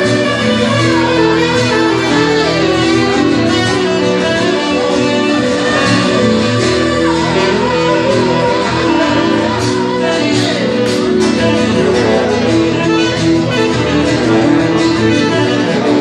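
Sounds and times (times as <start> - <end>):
acoustic guitar: 0.0 - 16.0
keyboard: 0.0 - 16.0
saxophone melody: 0.0 - 16.0.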